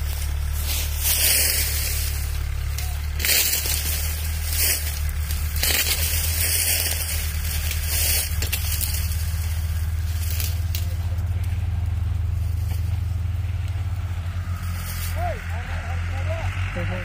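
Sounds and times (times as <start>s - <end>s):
diesel tractor engine labouring: 0.0s - 17.0s.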